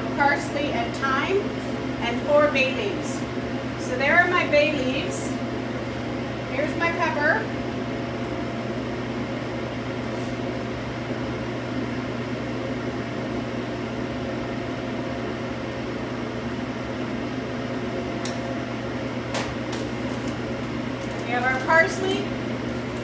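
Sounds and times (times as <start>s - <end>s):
kitchen ventilation fan humming: 0.0s - 23.0s.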